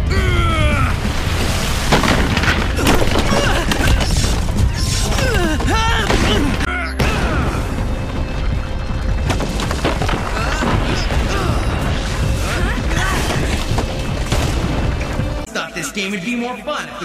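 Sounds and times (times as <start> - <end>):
earthquake rumble: 0.0 - 15.4
dramatic action music: 0.0 - 17.0
rock crashing and booming: 0.7 - 15.4.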